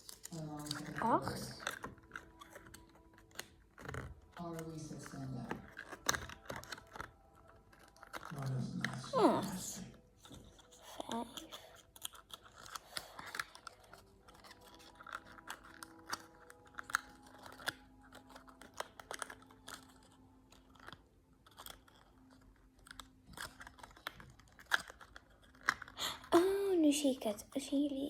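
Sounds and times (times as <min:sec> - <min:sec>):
cardboard and plastic pieces handled: 0:00.0 - 0:26.4.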